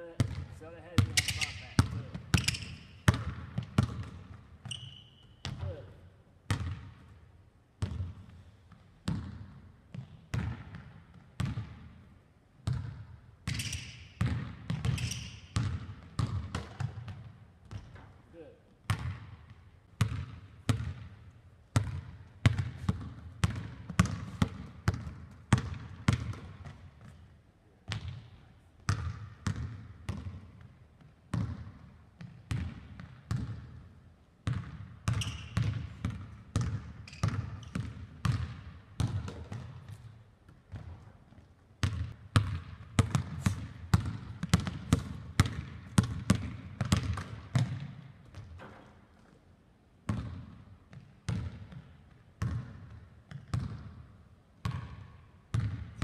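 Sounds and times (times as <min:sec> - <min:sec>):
basketball bouncing on hardwood floor: 0:00.2 - 0:00.4, 0:01.0 - 0:05.7, 0:06.5 - 0:07.0, 0:07.8 - 0:11.9, 0:12.6 - 0:18.1, 0:18.9 - 0:21.1, 0:21.8 - 0:27.2, 0:27.9 - 0:33.8, 0:34.4 - 0:48.9, 0:50.1 - 0:54.0, 0:54.6 - 0:56.0.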